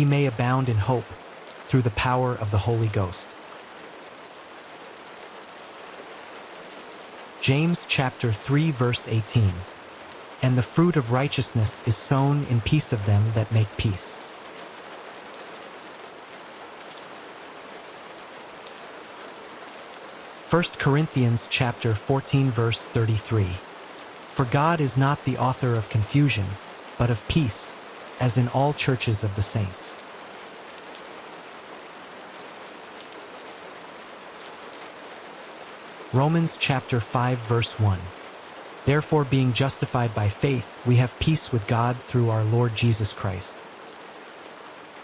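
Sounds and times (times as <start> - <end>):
soft rain falling: 0.0 - 45.0.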